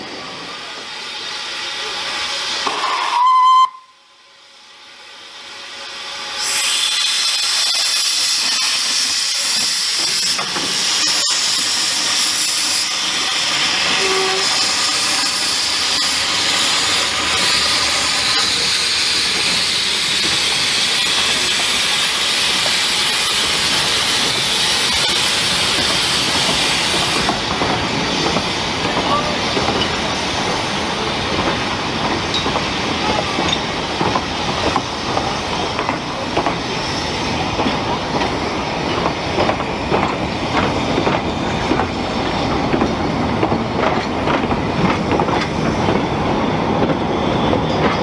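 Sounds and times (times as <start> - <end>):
steam locomotive hissing steam: 0.0 - 48.0.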